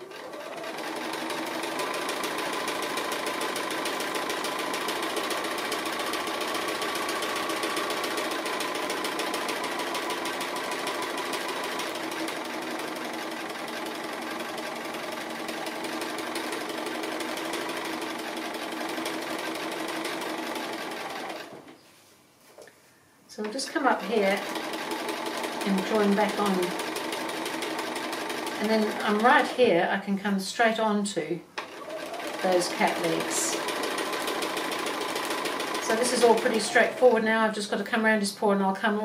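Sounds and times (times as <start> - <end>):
sewing machine stitching: 0.0 - 21.7, 23.4 - 29.6, 31.6 - 37.4.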